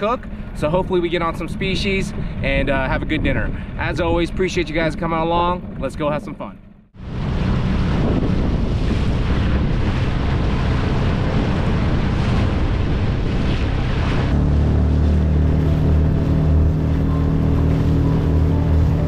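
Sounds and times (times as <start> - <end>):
wind rushing over microphone: 0.0 - 6.1, 7.0 - 19.0
water splashing along hull: 0.0 - 19.0.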